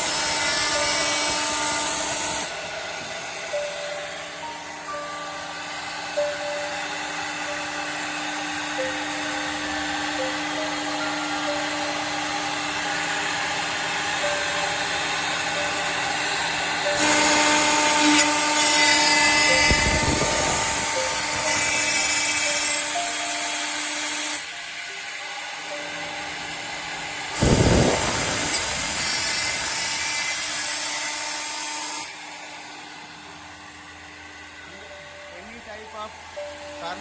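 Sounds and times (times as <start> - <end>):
milling machine spindle whine: 0.0 - 37.0.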